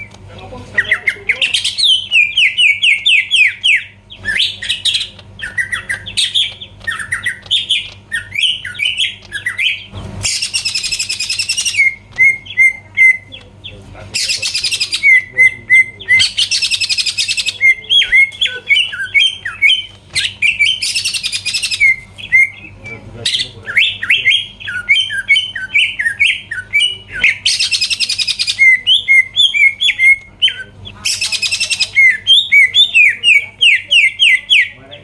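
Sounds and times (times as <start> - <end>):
bird whistling notes: 0.8 - 34.8.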